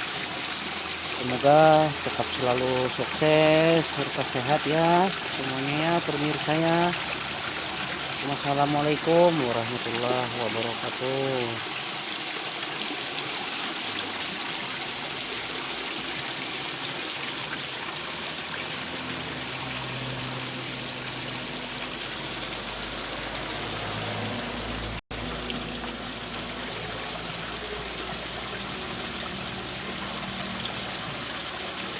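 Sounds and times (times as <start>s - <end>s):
water pouring into a pond: 0.0s - 31.9s.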